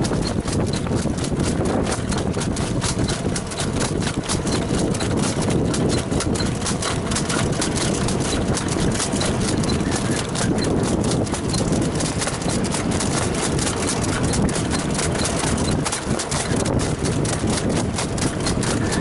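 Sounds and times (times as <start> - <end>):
continuous low rumble: 0.0 - 19.0
trotting hoofbeats: 0.0 - 19.0.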